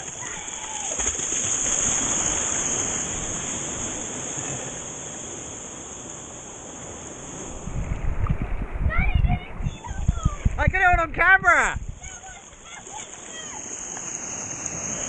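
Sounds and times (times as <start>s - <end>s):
small waves breaking on sand: 0.0s - 15.0s.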